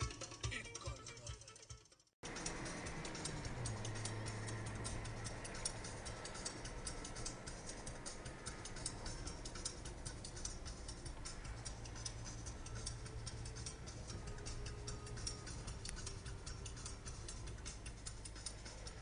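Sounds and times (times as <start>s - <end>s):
rapid irregular clicking: 2.2s - 19.0s
road and engine rumble: 2.2s - 19.0s.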